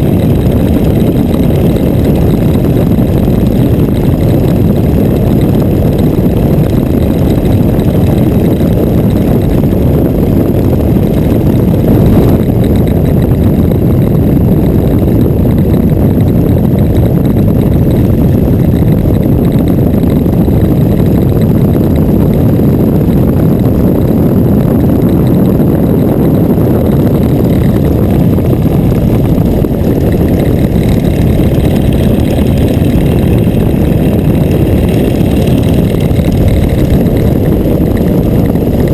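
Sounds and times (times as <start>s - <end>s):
biplane engine and propeller: 0.0s - 38.9s.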